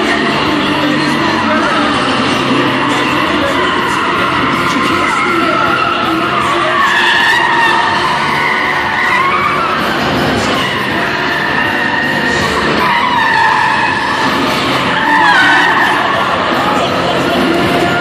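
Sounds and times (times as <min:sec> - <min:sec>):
car tyres squealing: 0:00.0 - 0:18.0
engine and tyre noise: 0:00.0 - 0:18.0.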